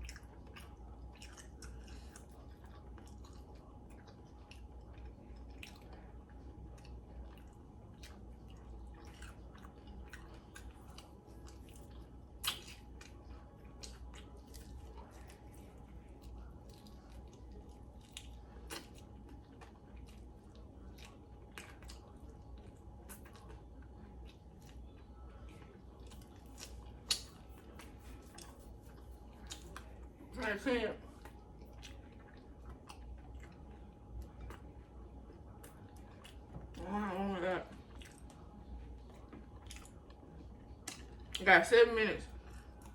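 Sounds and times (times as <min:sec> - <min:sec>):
person chewing chicken wings: 0:00.0 - 0:30.2, 0:31.1 - 0:36.9, 0:37.7 - 0:41.4
faint steady hum: 0:00.0 - 0:42.9.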